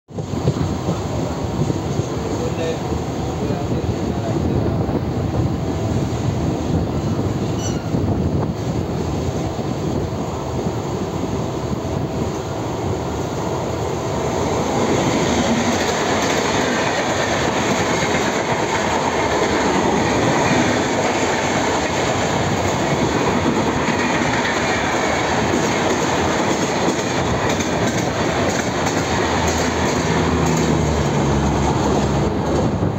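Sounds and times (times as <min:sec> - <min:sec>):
train wheels rumbling over track: 0:00.1 - 0:32.9.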